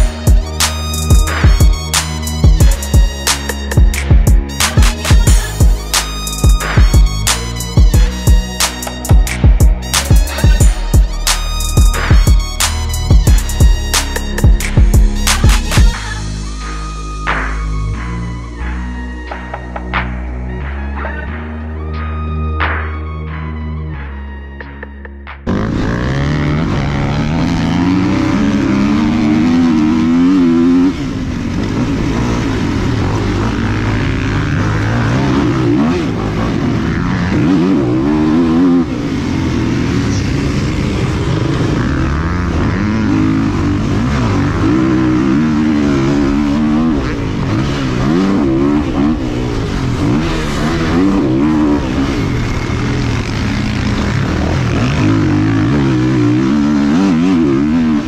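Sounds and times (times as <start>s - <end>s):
dirt bike engines revving: 0.0s - 18.7s, 25.4s - 58.0s.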